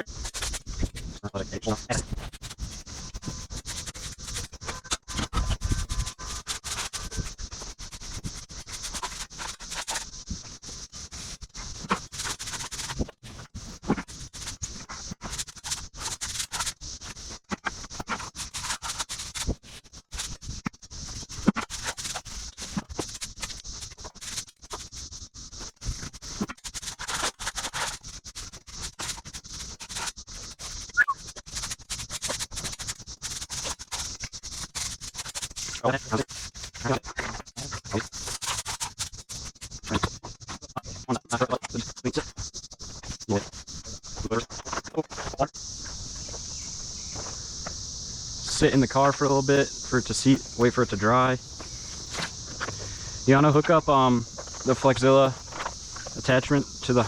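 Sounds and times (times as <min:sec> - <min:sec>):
rough scratching and scraping: 0:00.0 - 0:57.0
steady hiss: 0:00.0 - 0:57.0.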